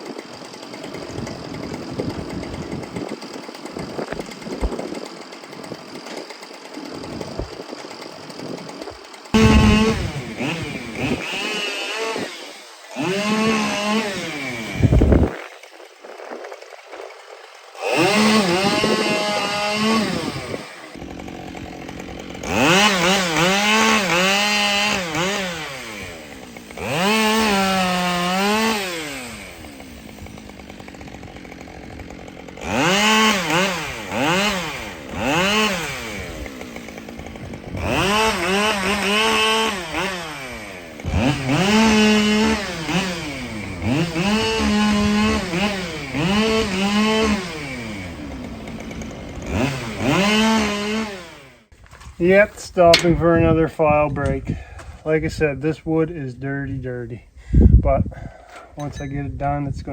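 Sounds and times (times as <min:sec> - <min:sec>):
chainsaw cutting logs: 0:00.0 - 0:55.3, 0:57.3 - 0:59.9.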